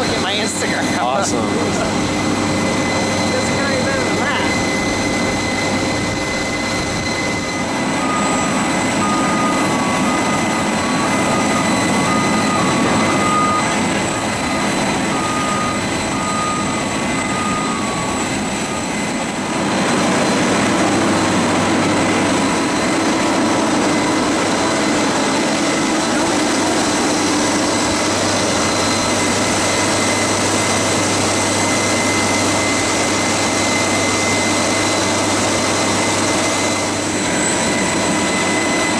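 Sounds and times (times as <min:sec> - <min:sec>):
jet turbine roar and whine: 0:00.0 - 0:38.9.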